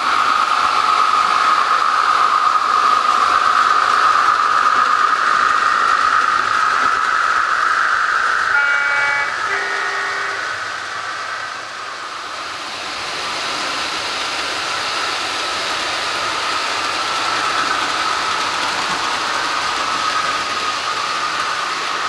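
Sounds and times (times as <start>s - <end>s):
model train hiss with held tone: 0.0s - 22.0s.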